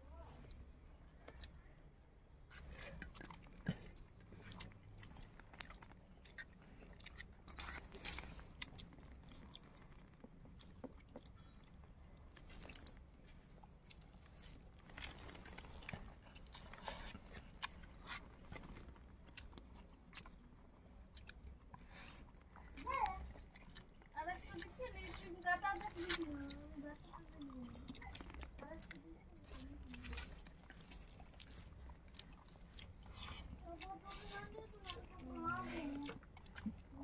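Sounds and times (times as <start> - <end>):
chewing and lip smacking: 0.2 - 1.8, 2.4 - 37.0.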